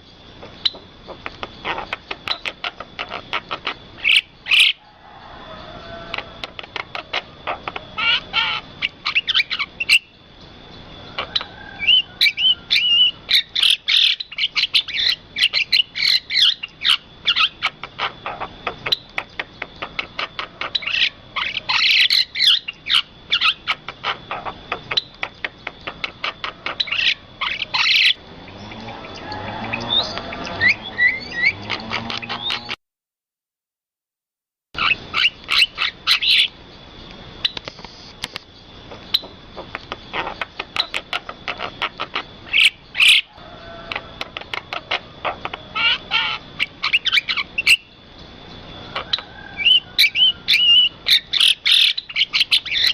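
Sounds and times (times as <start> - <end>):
birds chirping: 0.0 - 32.8, 34.8 - 52.9.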